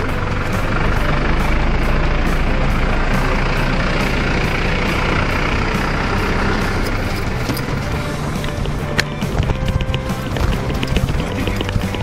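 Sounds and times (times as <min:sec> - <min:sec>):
fire pump engine running: 0:00.0 - 0:12.0.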